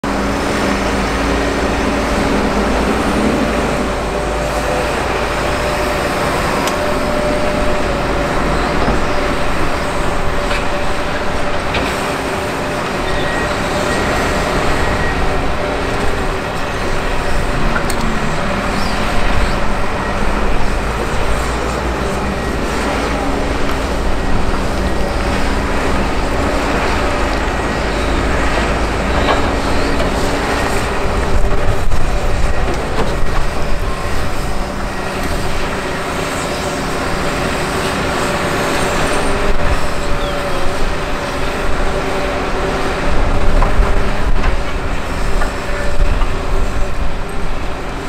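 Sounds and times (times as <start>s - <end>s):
excavator diesel engine under load: 0.0s - 48.0s.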